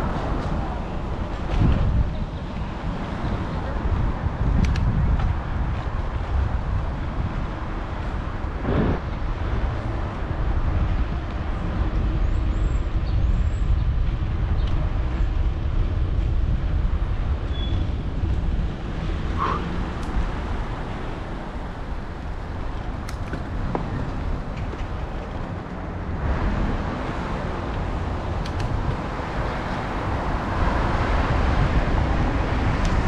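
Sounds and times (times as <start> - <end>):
city street traffic: 0.0 - 33.0
wind rumble on microphone: 0.0 - 33.0.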